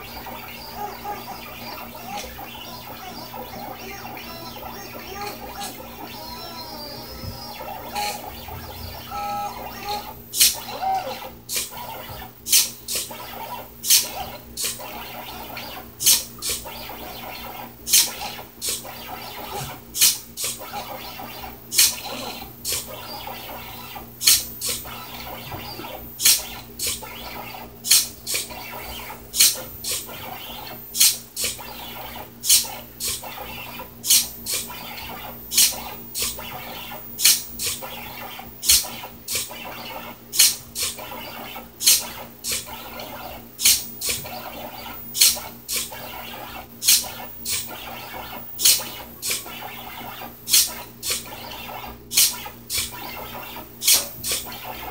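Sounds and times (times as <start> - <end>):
stepper motors driving carriage: 0.0 - 54.9.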